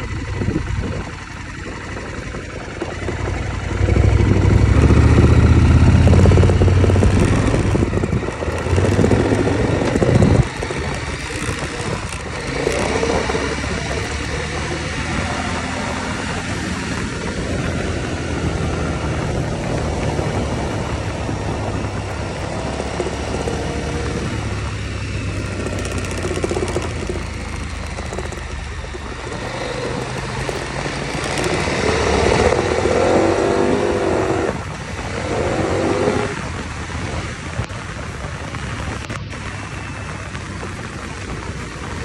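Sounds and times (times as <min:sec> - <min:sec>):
motorcycle engine running: 0:00.0 - 0:42.0
wind noise: 0:00.0 - 0:42.0.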